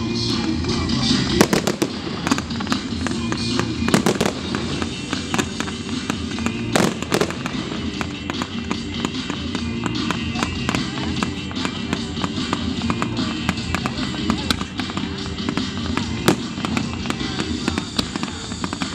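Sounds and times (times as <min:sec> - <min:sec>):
fireworks bangs and crackling: 0:00.0 - 0:18.9
music playing: 0:00.0 - 0:18.9.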